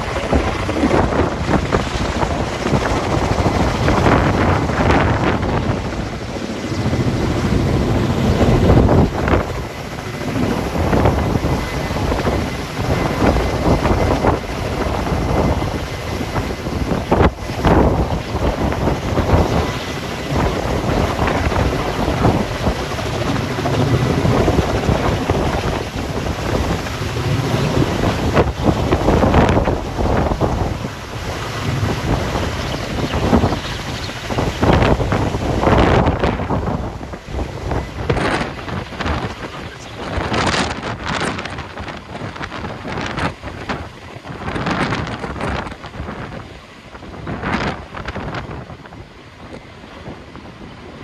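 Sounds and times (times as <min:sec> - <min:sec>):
helicopter rotor and turbine: 0:00.0 - 0:51.0
rotor downwash gusting on microphone: 0:00.0 - 0:51.0.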